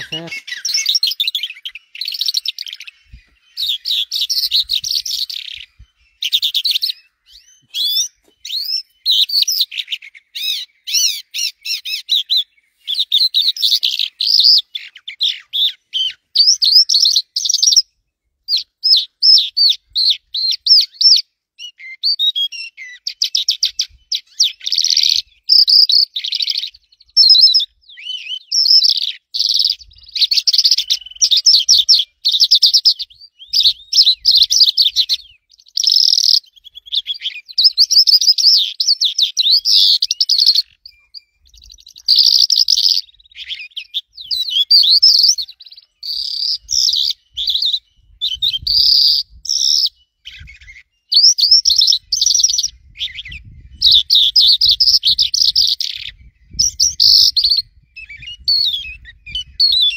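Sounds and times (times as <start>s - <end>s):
small bird twittering: 0.0s - 17.9s, 18.5s - 59.9s.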